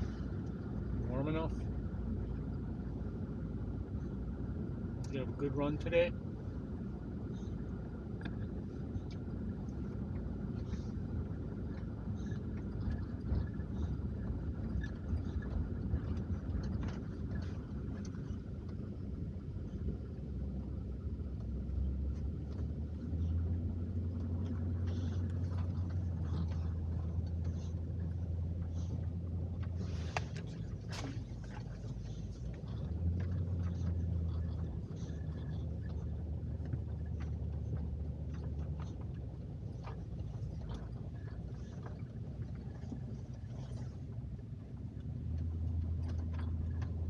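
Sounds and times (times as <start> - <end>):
car engine and road noise: 0.0 - 47.0
deep hum: 0.0 - 47.0.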